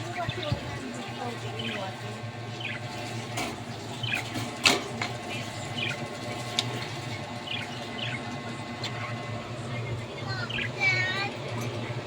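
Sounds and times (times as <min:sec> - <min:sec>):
budgerigars chirping: 0:00.0 - 0:12.0
steady low hum: 0:00.0 - 0:12.0.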